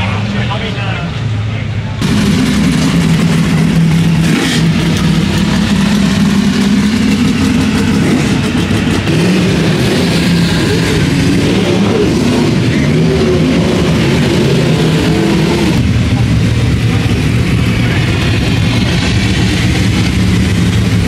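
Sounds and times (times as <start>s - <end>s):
race car engines roaring: 0.0s - 21.0s.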